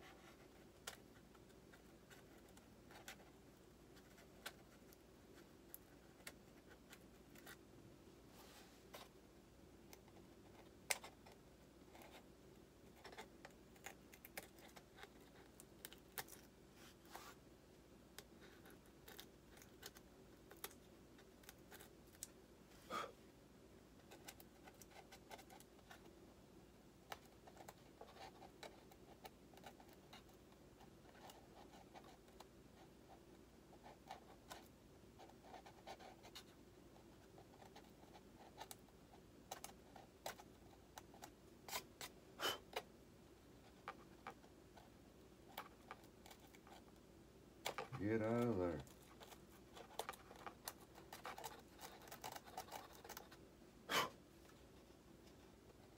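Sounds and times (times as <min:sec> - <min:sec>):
small clicks and scratches: 0:00.0 - 0:07.7, 0:09.8 - 0:17.4, 0:18.1 - 0:22.4, 0:24.0 - 0:26.2, 0:27.0 - 0:47.0, 0:47.6 - 0:53.4.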